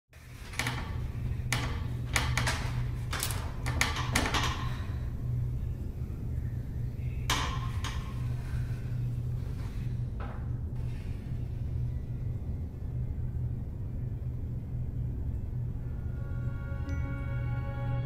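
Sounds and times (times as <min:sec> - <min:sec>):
steady low hum: 0:00.2 - 0:18.0.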